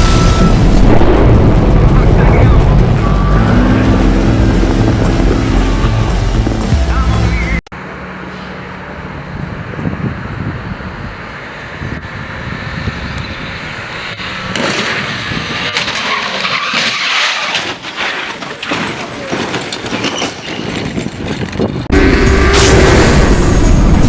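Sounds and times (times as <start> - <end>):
car driven hard: 0.0 - 18.0, 20.8 - 24.0
tyres skidding: 0.0 - 24.0.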